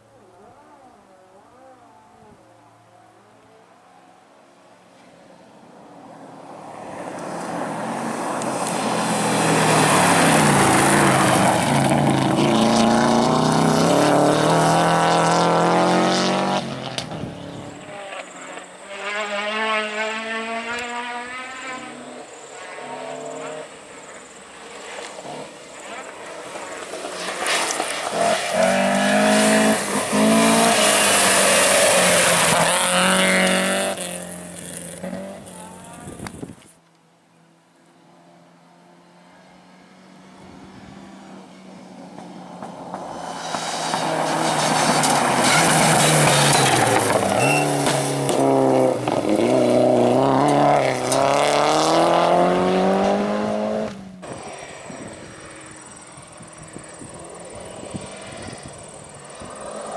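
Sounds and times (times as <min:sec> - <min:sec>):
car engine approaching at speed: 0:00.0 - 0:59.9.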